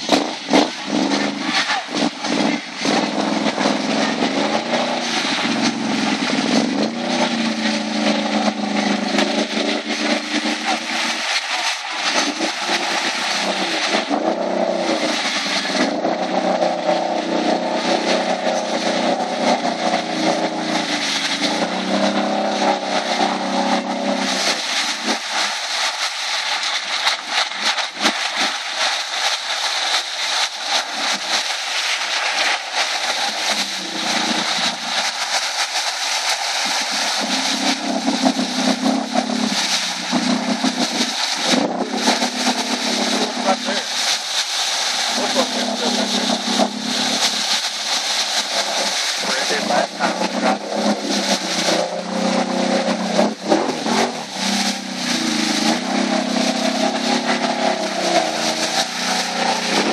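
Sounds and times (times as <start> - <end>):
atv engine revving: 0.0 - 25.6, 30.7 - 35.3, 36.6 - 43.9, 45.1 - 59.9
mud splashing: 0.0 - 59.9
tires churning mud: 0.0 - 59.9.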